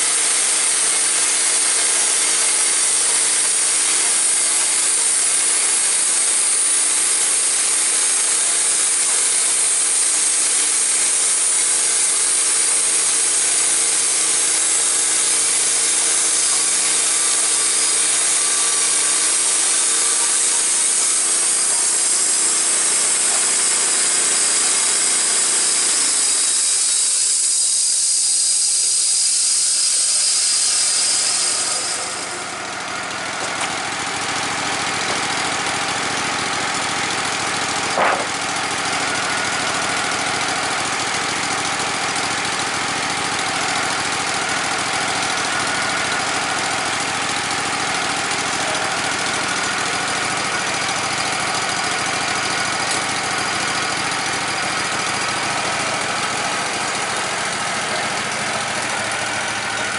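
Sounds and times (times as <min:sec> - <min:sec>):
band saw blade cutting log: 0:00.0 - 0:59.9
gas engine running: 0:00.0 - 0:59.9.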